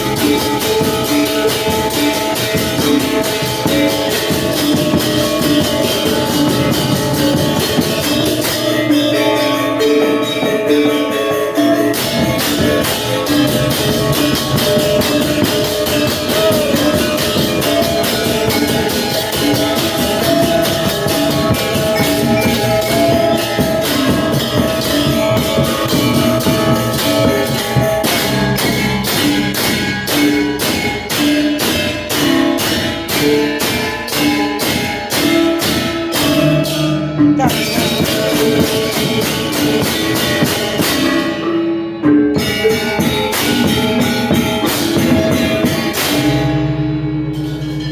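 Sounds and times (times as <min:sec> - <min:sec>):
steady drumming: 0:00.0 - 0:41.3
gamelan ensemble playing: 0:00.0 - 0:47.9
metallophones ringing: 0:00.0 - 0:47.9.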